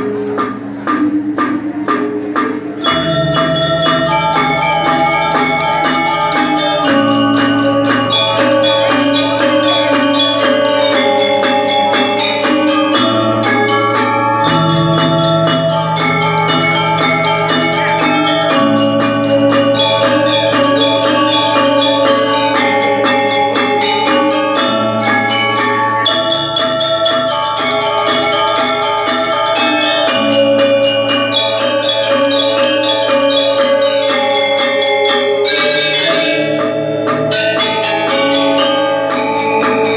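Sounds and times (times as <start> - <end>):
bell-like metal percussion ensemble: 0.0 - 39.9.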